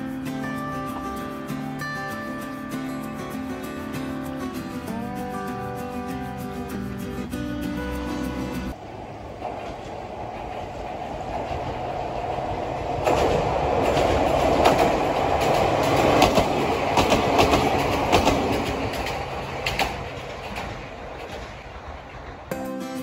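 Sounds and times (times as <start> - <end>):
train wheels clacking on rail joints: 0.0 - 22.5
train rumble passing: 0.0 - 22.6.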